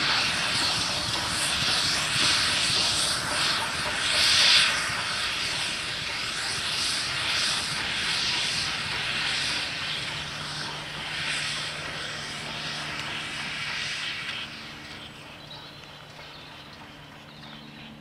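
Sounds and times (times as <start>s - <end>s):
steady low hum: 0.0s - 18.0s
steam locomotive exhaust beats: 0.0s - 18.0s
wheels rumbling on rail: 0.0s - 18.0s.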